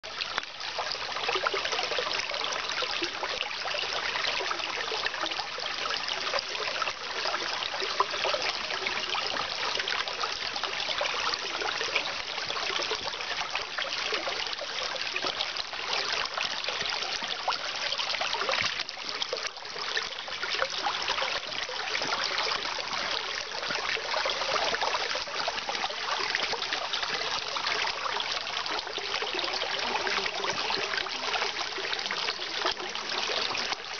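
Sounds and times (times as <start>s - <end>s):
stream babbling over rocks: 0.0s - 33.9s.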